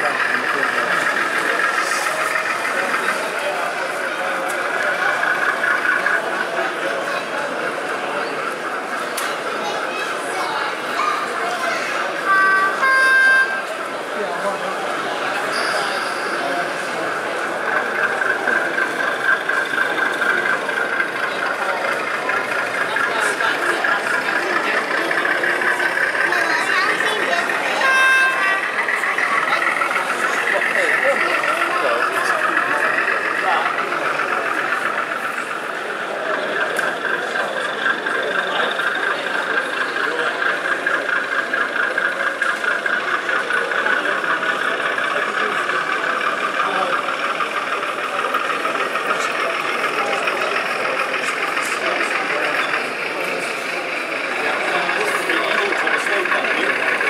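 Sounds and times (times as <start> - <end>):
crowd chatter: 0.0 - 57.0
model diesel engine sound: 0.0 - 57.0.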